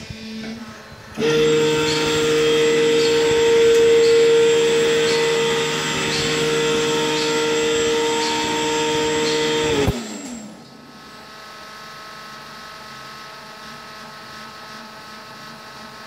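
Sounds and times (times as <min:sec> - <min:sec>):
electric motor machine whining: 0:00.0 - 0:16.0.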